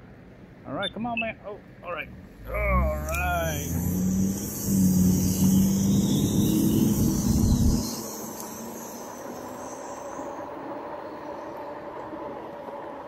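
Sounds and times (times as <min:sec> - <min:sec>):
traffic noise: 0:00.0 - 0:13.0
bus driving past humming: 0:01.8 - 0:13.0.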